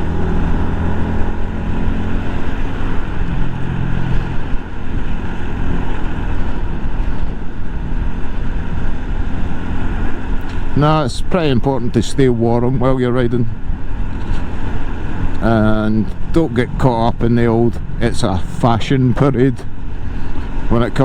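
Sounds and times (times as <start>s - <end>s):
heavy wind noise: 0.0s - 21.0s
motorcycle engine running: 0.0s - 21.0s.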